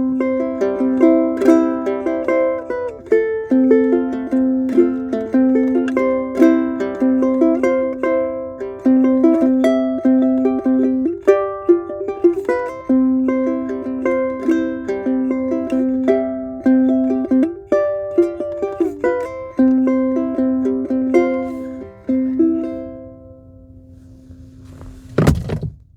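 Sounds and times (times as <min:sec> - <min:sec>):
ukulele fingerpicked melody: 0:00.0 - 0:24.9.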